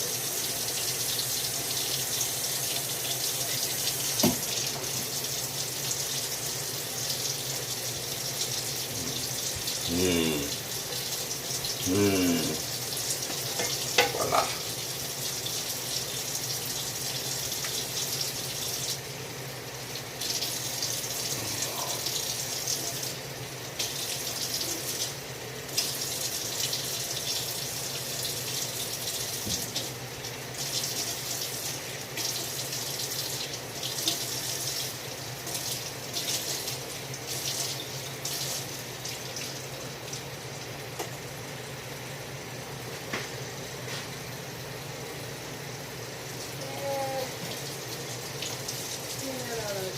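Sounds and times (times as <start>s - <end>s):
tap water running into sink: 0.0s - 41.4s, 46.2s - 49.9s.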